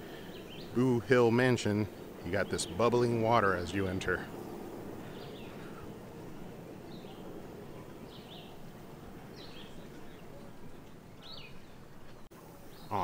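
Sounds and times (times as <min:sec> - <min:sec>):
bird chirping: 0:00.0 - 0:13.0
low background noise: 0:00.0 - 0:13.0.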